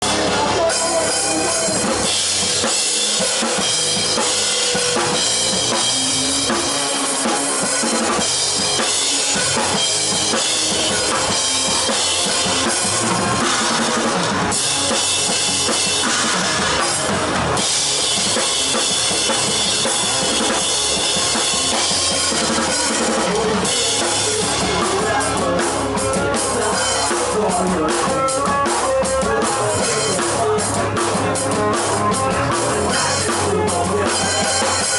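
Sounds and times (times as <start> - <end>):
drum kit: 0.0 - 34.9
live rock band playing: 0.0 - 34.9.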